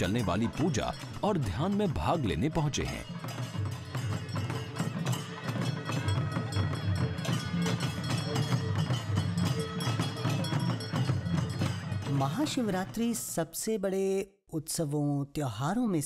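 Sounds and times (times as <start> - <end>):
quick percussion beat: 0.0 - 13.3.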